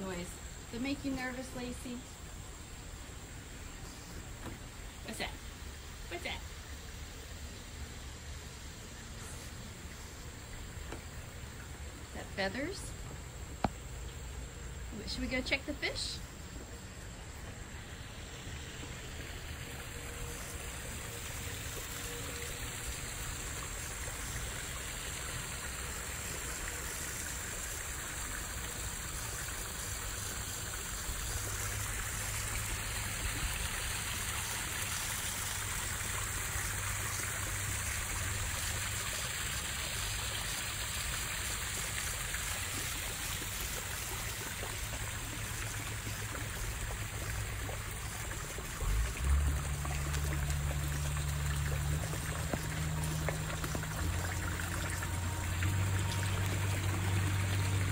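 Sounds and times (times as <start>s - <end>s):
waterfall splashing into pond: 0.0s - 57.9s.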